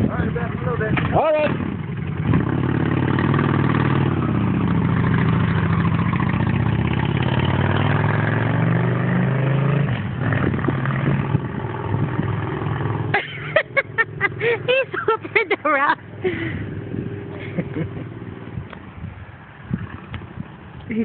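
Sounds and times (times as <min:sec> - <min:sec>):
motorcycle engine moving off: 0:00.0 - 0:21.0.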